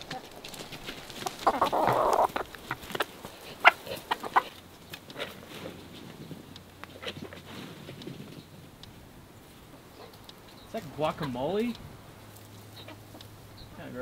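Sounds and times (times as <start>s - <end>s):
chickens clucking and squawking: 0.0s - 14.0s.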